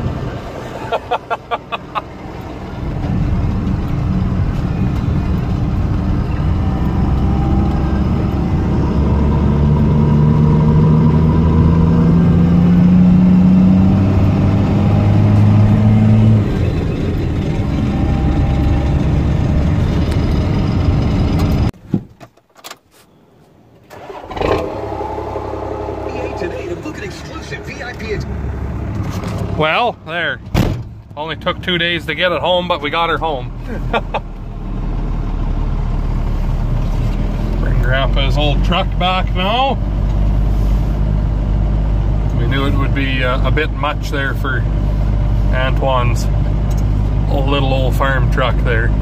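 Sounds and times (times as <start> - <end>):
pickup truck engine accelerating: 0.0 - 21.8, 23.9 - 49.0.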